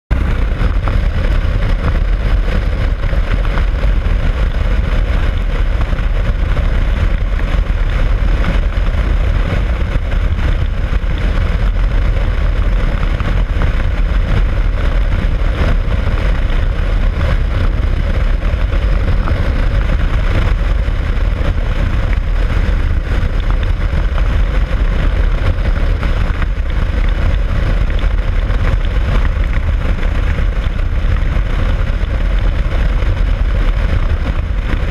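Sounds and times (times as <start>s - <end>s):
motorcycle engine: 0.1s - 34.9s
wind rushing over microphone: 0.1s - 34.9s.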